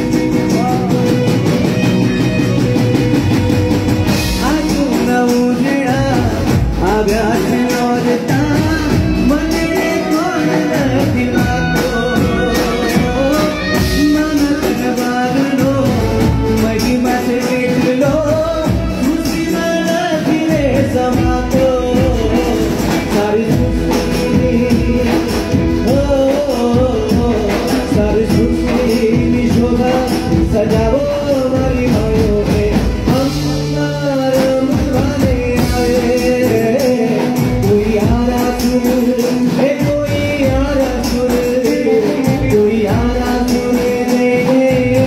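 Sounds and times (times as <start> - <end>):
drums: 0.0 - 45.0
electric guitar: 0.0 - 45.0.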